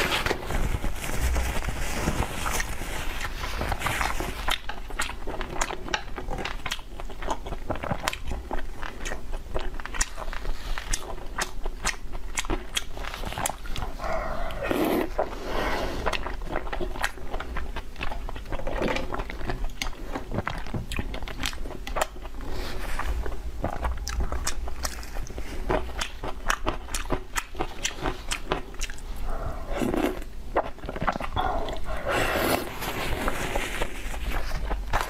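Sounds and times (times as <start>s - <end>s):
wet chewing and lip smacking: 3.2s - 15.3s, 16.0s - 22.6s, 23.2s - 33.2s.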